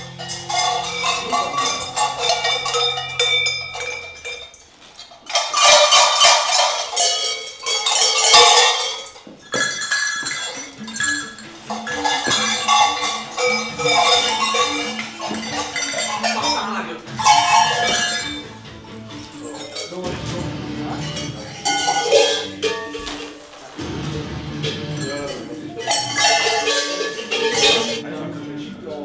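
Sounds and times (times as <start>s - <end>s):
cowbells clanging: 0.0s - 29.0s.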